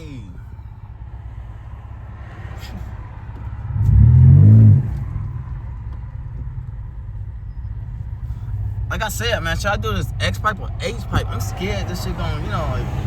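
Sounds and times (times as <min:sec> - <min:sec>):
car exhaust droning low: 0:00.0 - 0:13.0.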